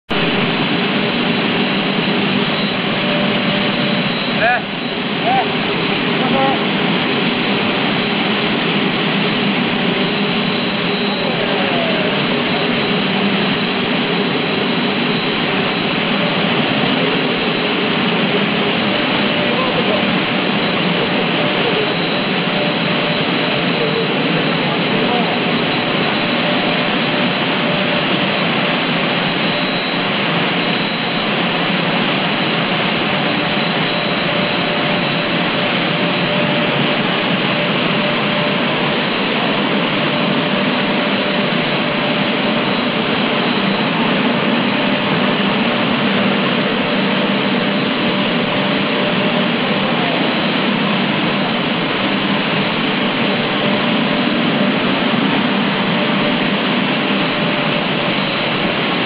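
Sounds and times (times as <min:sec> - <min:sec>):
extruder machine noise: 0:00.1 - 0:59.0.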